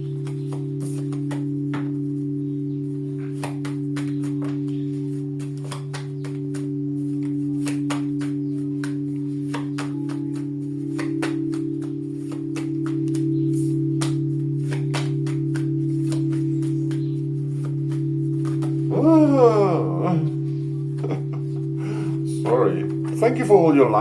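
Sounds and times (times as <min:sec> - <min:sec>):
low drone music: 0:00.0 - 0:24.0.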